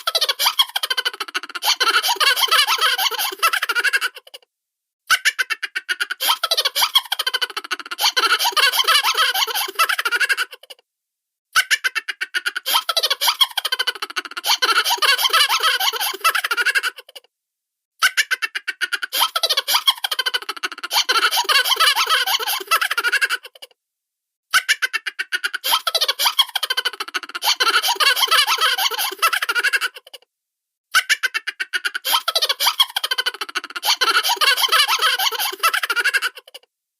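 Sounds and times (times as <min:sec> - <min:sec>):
cartoon laughter: 0:00.0 - 0:04.4, 0:05.1 - 0:10.8, 0:11.6 - 0:17.3, 0:18.0 - 0:23.7, 0:24.5 - 0:30.2, 0:30.9 - 0:36.6.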